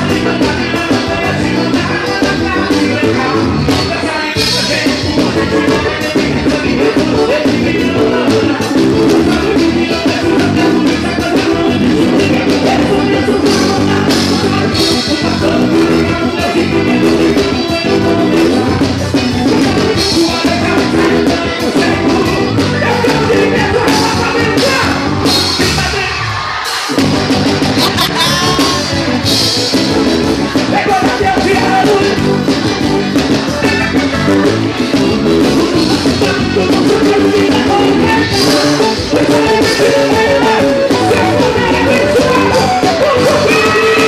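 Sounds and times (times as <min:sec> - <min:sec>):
person singing: 0:00.0 - 0:26.2, 0:27.6 - 0:44.0
bass guitar: 0:00.0 - 0:44.0
drum kit: 0:00.0 - 0:44.0
electric guitars: 0:00.0 - 0:44.0
keyboard: 0:00.0 - 0:44.0.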